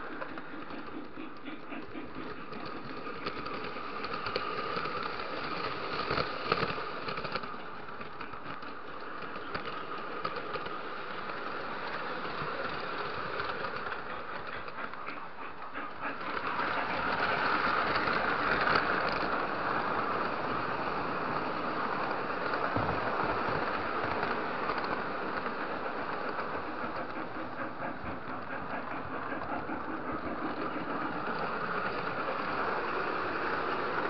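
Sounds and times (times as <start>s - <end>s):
fast clicking over rail joints: 0.0s - 34.0s
model train running on track: 0.0s - 34.0s.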